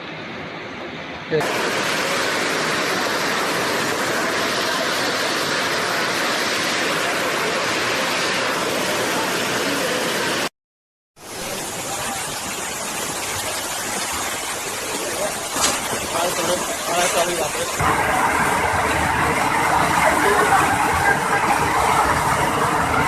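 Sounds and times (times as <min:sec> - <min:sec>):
floodwater rushing: 0:01.3 - 0:10.5, 0:11.2 - 0:23.0.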